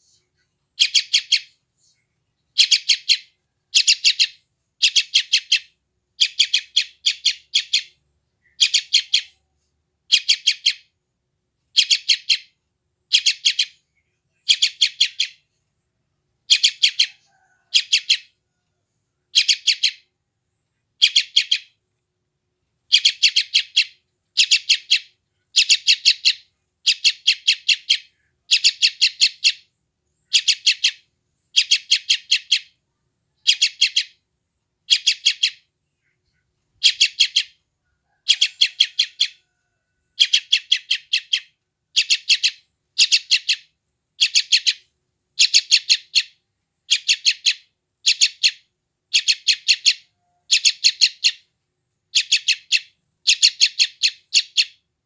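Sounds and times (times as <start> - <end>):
bird chirping in rapid bursts: 0.0 - 11.0, 11.7 - 15.7, 16.4 - 18.4, 19.3 - 20.1, 20.9 - 21.8, 22.8 - 55.0.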